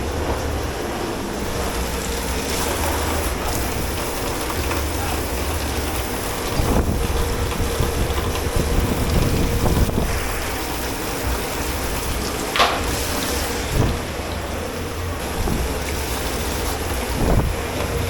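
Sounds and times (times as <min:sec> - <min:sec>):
machine hum: 0:00.0 - 0:18.0
rushing water noise: 0:00.0 - 0:18.0.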